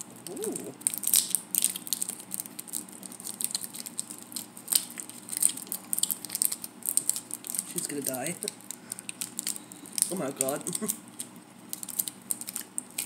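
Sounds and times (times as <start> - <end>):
candy wrapper crinkling: 0.1 - 13.0.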